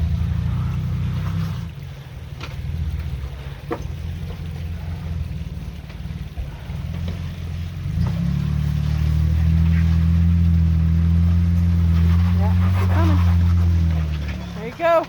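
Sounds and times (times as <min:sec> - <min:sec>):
engine running at low speed: 0:00.0 - 0:15.0.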